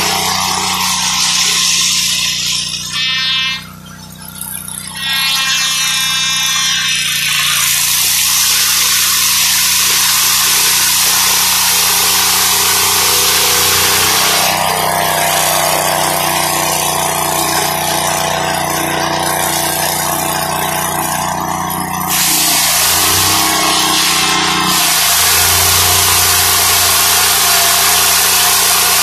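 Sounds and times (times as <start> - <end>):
circular blade cutting log: 0.0 - 29.0
sawmill engine running: 0.0 - 29.0
steady whine: 0.0 - 29.0.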